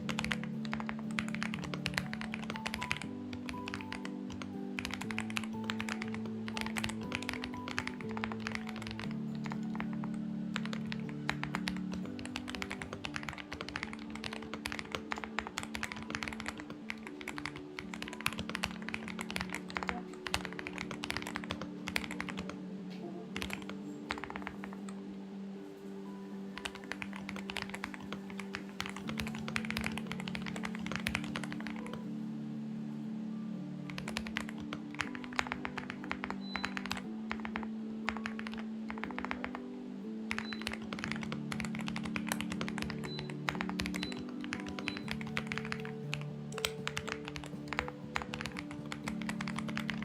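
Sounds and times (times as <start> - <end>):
mechanical keyboard typing: 0.0 - 22.6, 23.3 - 25.0, 26.5 - 32.1, 33.9 - 39.6, 40.3 - 50.0
background music: 0.0 - 50.0.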